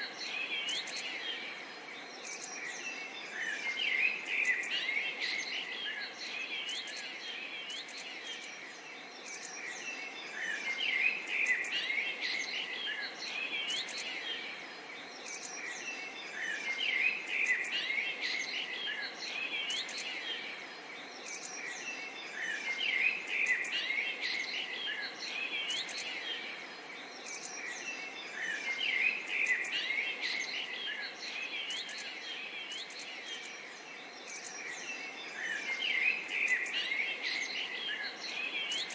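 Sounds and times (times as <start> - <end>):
faint steady hiss: 0.0 - 38.9
songbirds chirping: 0.0 - 38.9.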